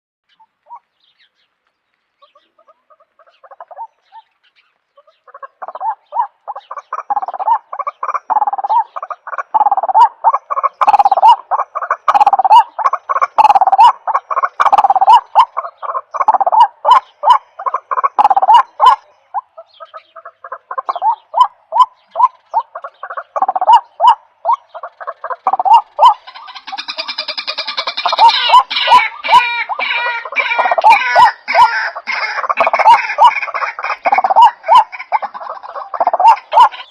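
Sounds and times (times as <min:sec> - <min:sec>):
rapid repeated animal calls: 0:02.2 - 0:36.9.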